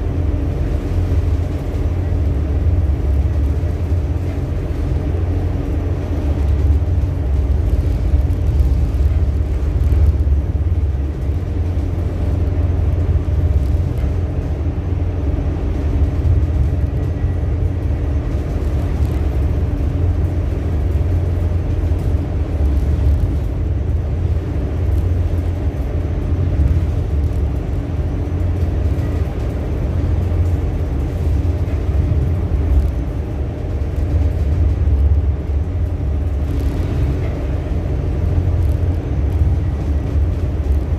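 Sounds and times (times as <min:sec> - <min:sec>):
ship engine rumbling: 0:00.0 - 0:40.9.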